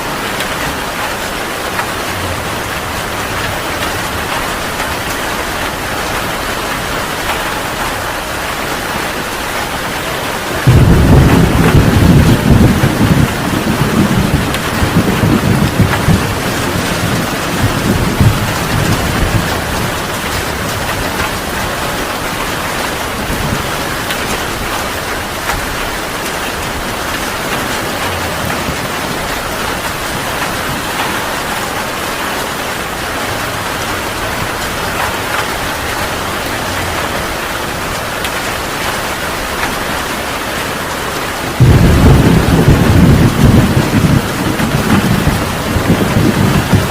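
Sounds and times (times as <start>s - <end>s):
thunder rumbling: 0.0s - 40.4s, 41.3s - 46.9s
heavy rain: 0.0s - 46.9s.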